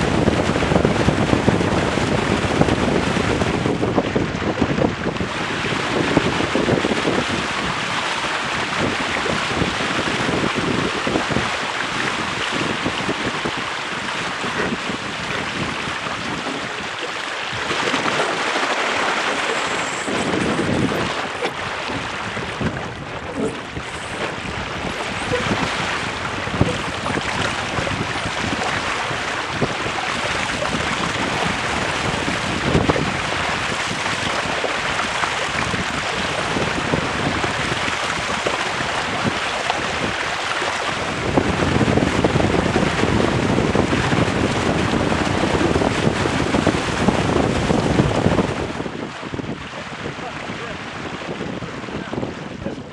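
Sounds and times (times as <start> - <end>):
water rushing along hull: 0.0 - 52.9
water splashing and slapping: 0.0 - 52.9
wind buffeting microphone: 0.0 - 52.9.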